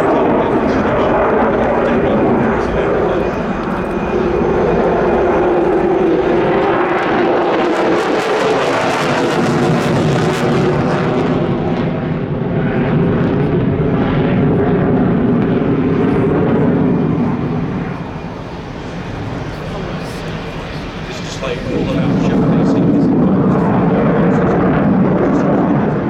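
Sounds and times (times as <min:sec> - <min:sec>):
fighter jet engines roaring: 0:00.0 - 0:26.0.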